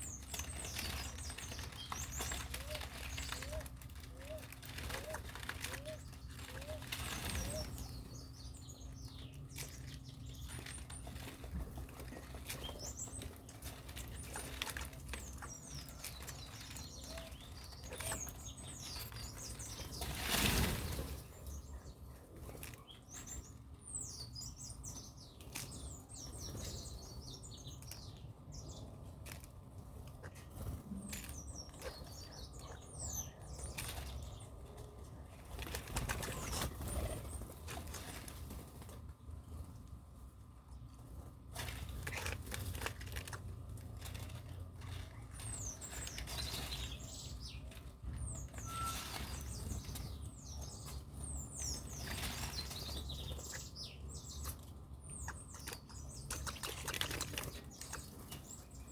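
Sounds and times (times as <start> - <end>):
wings fluttering: 0.0 - 21.6, 28.7 - 39.8, 41.1 - 58.9
small birds chirping: 0.0 - 58.9.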